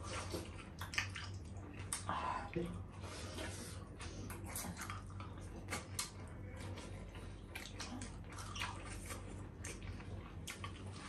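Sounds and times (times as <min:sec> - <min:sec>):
slurping and chewing: 0:00.0 - 0:02.1, 0:03.0 - 0:11.0
steady low hum: 0:00.0 - 0:11.0.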